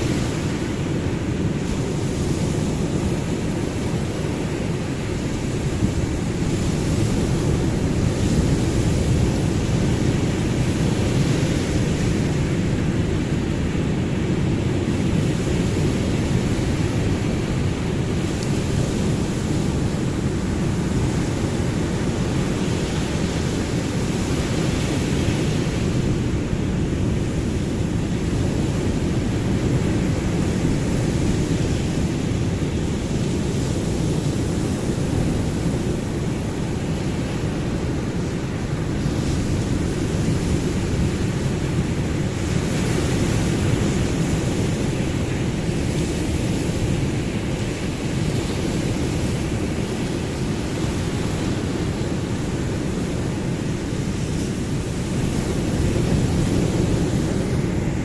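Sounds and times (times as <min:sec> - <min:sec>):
ocean waves washing in: 0:00.0 - 0:58.0.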